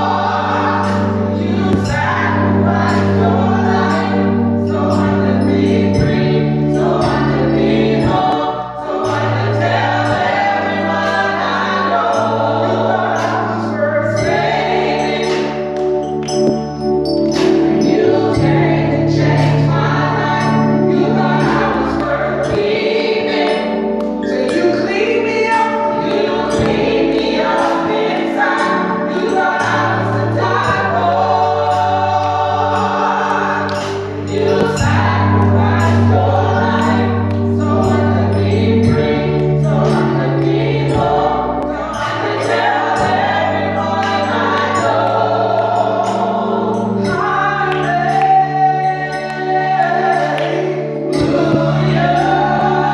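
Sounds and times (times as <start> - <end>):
choir singing: 0.0 - 52.9.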